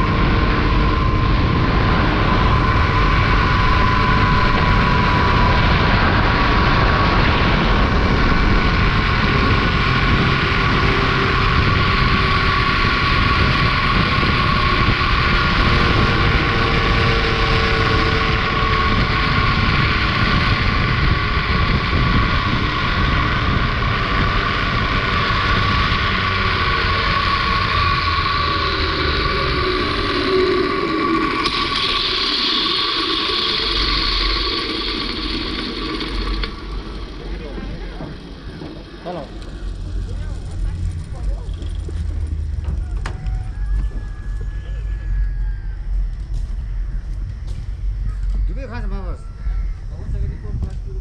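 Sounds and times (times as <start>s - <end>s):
wind buffeting microphone: 0.0s - 51.0s
zipline pulleys whining on cable: 0.0s - 51.0s.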